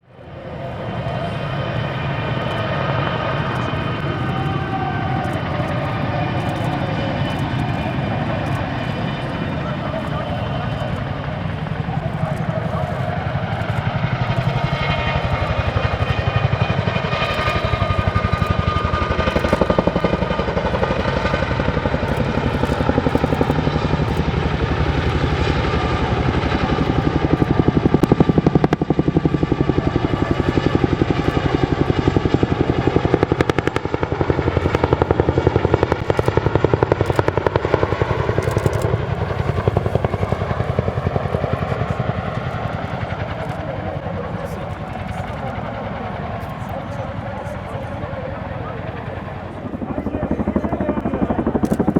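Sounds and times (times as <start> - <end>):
helicopter rotor beating: 0.0 - 51.9
turbine whine: 0.0 - 51.9.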